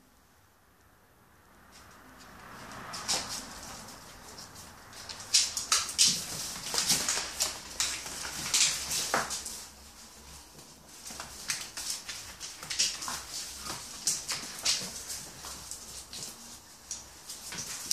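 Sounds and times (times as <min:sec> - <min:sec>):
dogs scuffling: 0:01.7 - 0:17.9
claws scrabbling on wooden floor: 0:01.8 - 0:17.9.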